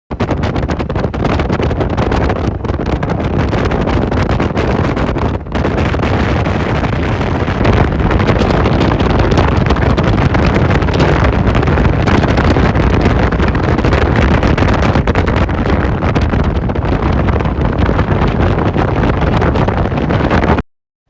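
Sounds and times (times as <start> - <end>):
wind rushing over microphone: 0.1 - 20.6
motorbike running: 2.0 - 20.6.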